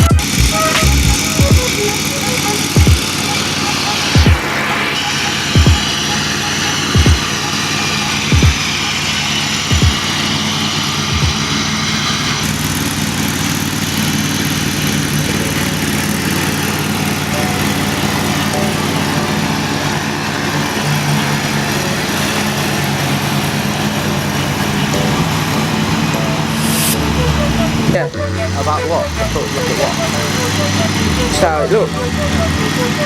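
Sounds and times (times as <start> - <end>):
ride-on mower engine idling: 0.0 - 33.0.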